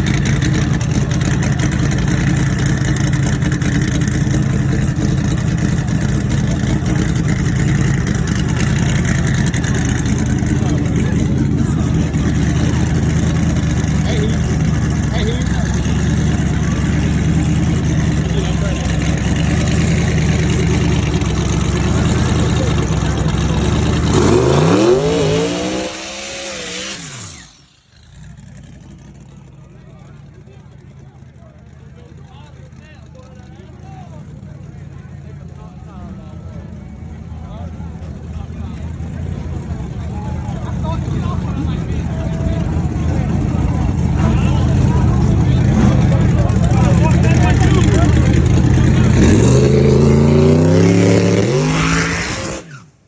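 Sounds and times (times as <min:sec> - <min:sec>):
car engine running steadily: 0:00.0 - 0:51.5.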